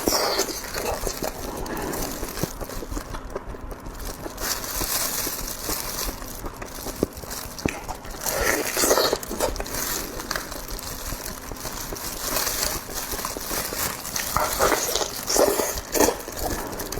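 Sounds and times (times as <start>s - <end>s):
chewing and biting food: 0.0s - 16.9s.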